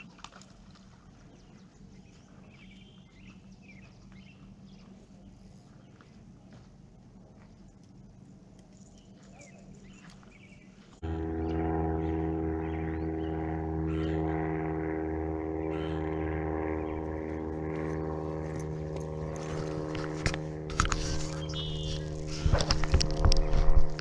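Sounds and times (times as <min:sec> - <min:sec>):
steady engine drone: 0:00.0 - 0:24.0.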